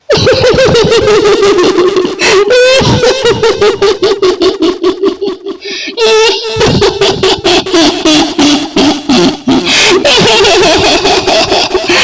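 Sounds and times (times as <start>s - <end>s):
woman's high-pitched cackling laugh: 0.1s - 12.0s.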